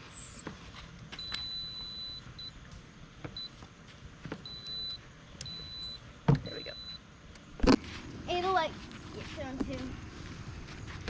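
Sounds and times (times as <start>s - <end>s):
low fan hum: 0.0s - 11.0s.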